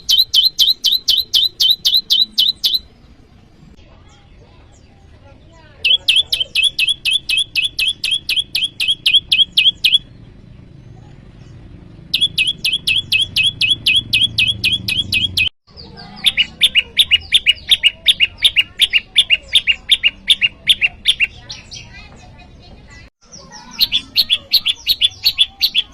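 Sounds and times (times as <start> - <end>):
songbird rapid sharp chirping: 0.0 - 3.3, 5.8 - 25.9.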